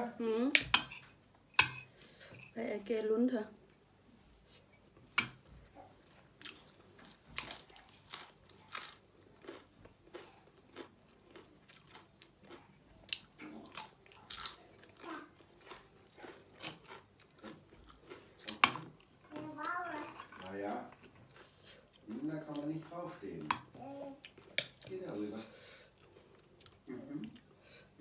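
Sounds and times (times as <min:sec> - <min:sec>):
person chewing crunchy food: 0:05.3 - 0:28.0.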